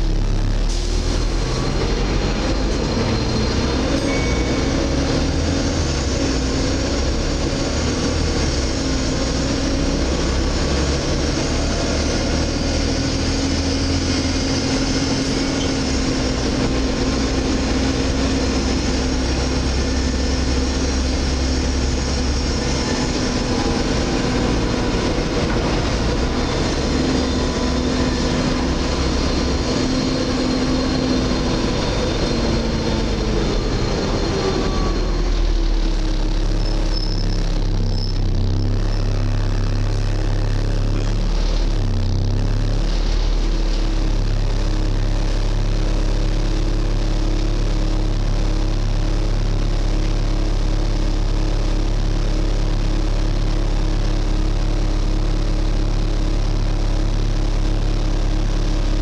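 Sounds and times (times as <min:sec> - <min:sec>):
bus engine and road noise: 0:00.0 - 0:59.0
low hum: 0:00.0 - 0:59.0.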